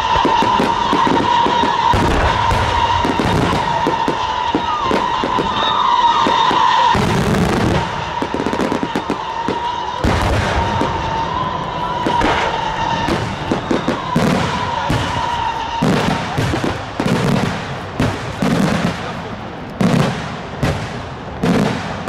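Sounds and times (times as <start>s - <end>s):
deep firework bangs: 0.0s - 22.0s
fireworks bursting and crackling: 0.0s - 22.0s.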